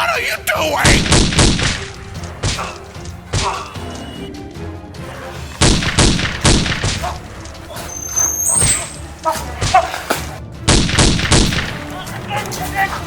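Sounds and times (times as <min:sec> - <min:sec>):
background music: 0:00.0 - 0:13.0
sharp bangs: 0:00.8 - 0:04.2, 0:05.4 - 0:12.7.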